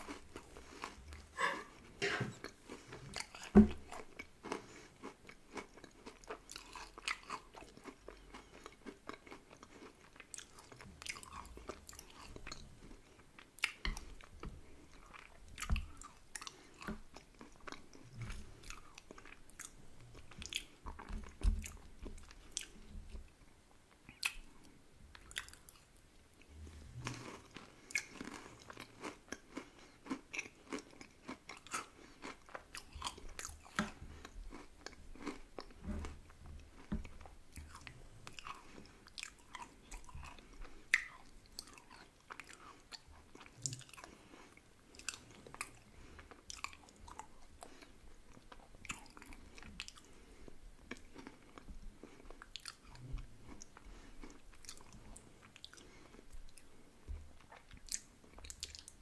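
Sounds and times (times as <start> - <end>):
chewing crunchy ice cream: 0.0 - 23.4, 24.1 - 59.0.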